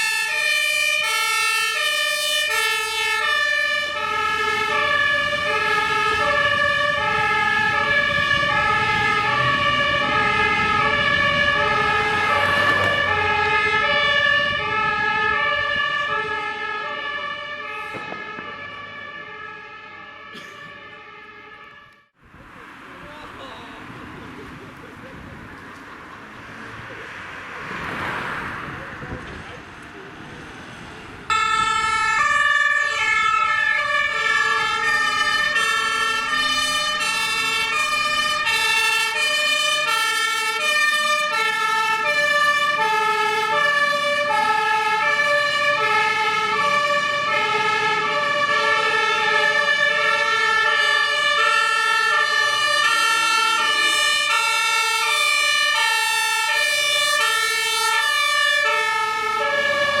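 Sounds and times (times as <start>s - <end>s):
two-tone fire engine sirens: 0.0s - 60.0s.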